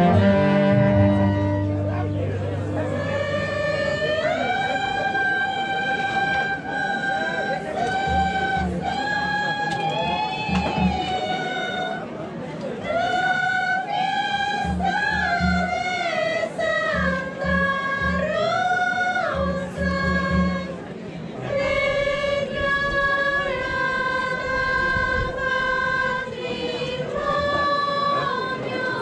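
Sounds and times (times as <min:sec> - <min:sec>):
low evenly spaced beats: 0:00.0 - 0:12.1, 0:12.8 - 0:28.4
women singing in unison: 0:02.8 - 0:12.1, 0:12.8 - 0:20.8, 0:21.4 - 0:29.0.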